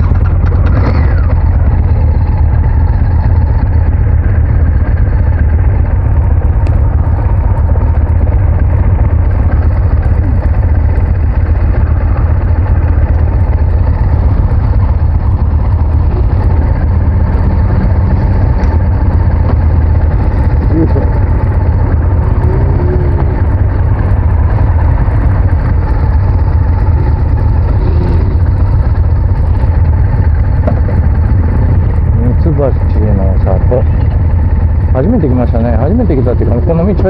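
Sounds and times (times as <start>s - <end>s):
motorcycle engine droning: 0.0s - 37.0s.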